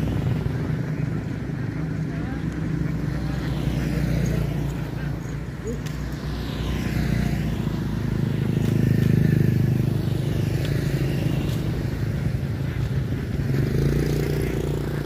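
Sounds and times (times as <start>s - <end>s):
passing traffic engine rumble: 0.0s - 15.0s.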